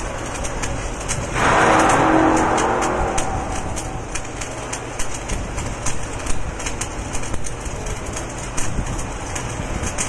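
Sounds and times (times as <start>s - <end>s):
arc welding crackling hiss: 0.0s - 10.0s.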